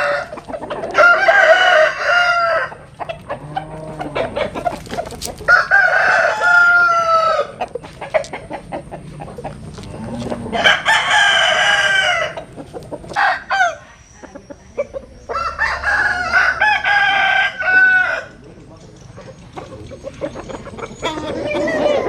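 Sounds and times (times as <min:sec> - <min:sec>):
roosters crowing: 0:00.0 - 0:18.5, 0:20.0 - 0:22.0
chickens clucking: 0:00.0 - 0:22.0.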